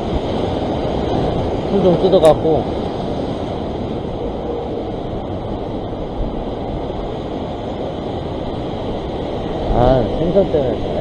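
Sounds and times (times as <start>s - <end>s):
surf washing over rocks: 0.0s - 11.0s
wind on microphone: 0.0s - 11.0s.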